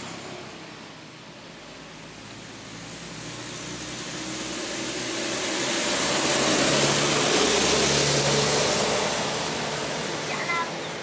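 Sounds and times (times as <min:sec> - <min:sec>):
vehicle passing by: 0:01.6 - 0:11.0.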